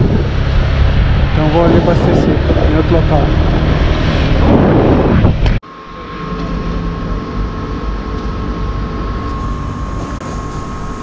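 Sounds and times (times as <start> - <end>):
fuel pump whine: 0.0 - 11.0
petrol pump humming: 0.0 - 11.0.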